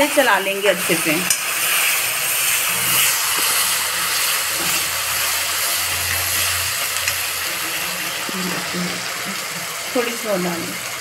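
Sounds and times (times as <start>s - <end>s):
tomato puree sizzling in oil: 0.0s - 11.0s.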